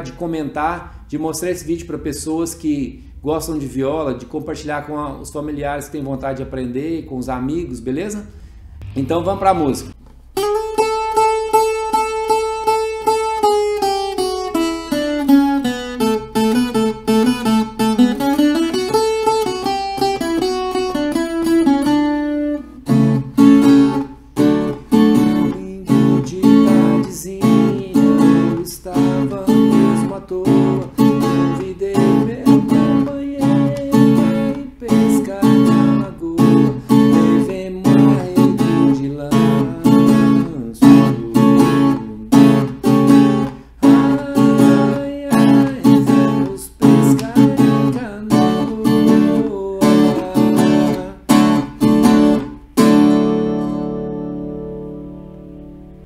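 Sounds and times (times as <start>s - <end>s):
guitar strummed rhythmically: 8.4s - 56.0s.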